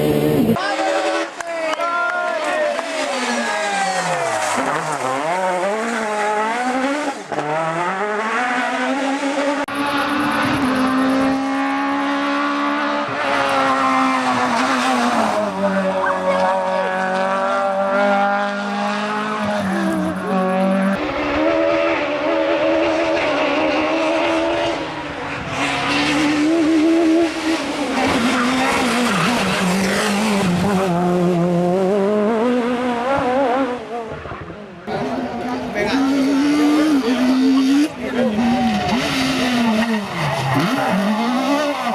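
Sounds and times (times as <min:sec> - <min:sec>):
rally car engine revving: 0:00.0 - 0:01.4, 0:02.7 - 0:41.9.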